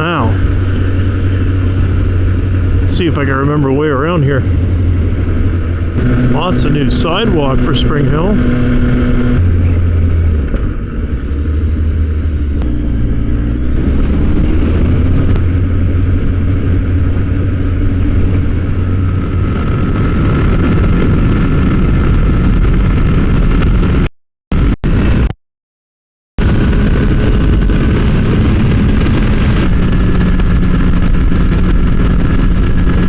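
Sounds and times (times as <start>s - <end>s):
motorcycle engine running: 0.0s - 24.1s, 26.4s - 33.0s
wind and road noise: 0.0s - 25.4s, 26.4s - 33.0s.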